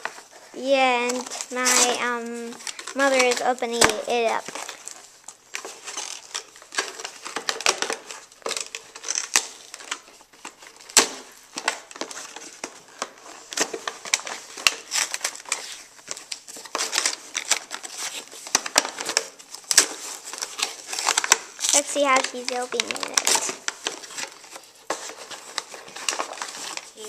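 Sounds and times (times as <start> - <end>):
cardboard box crinkling and tearing: 1.1 - 27.0.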